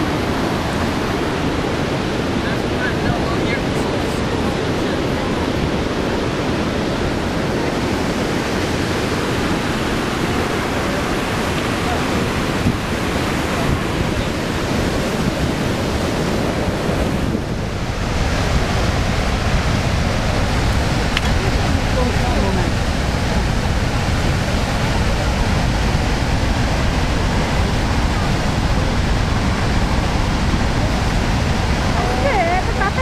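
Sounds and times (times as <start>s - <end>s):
waterfall rushing: 0.0s - 33.0s
wind on microphone: 0.0s - 33.0s.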